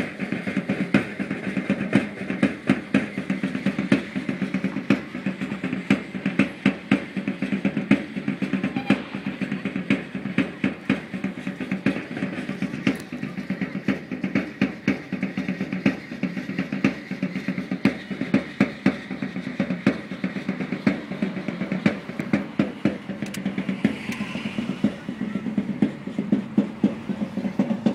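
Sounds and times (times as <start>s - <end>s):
drum beating a quick beat: 0.0s - 27.9s.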